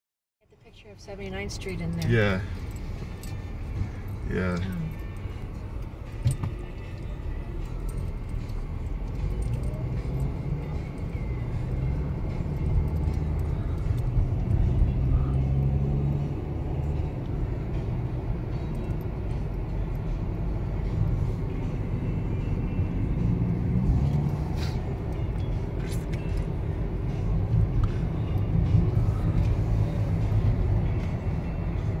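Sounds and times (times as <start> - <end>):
car cabin road noise: 0.5 - 32.0.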